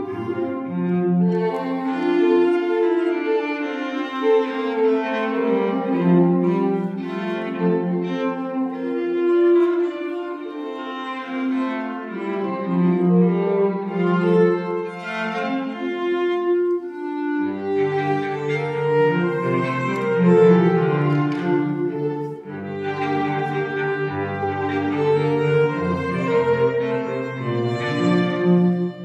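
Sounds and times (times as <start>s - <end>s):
cello: 0.0s - 29.0s
violin: 0.0s - 29.0s.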